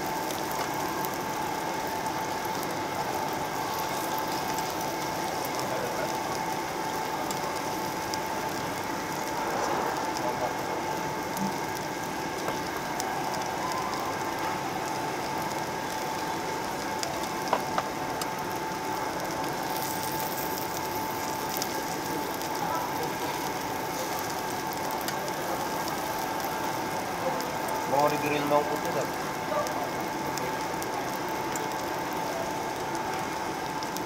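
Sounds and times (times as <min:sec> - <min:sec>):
pork sizzling on a grill plate: 0:00.0 - 0:34.0.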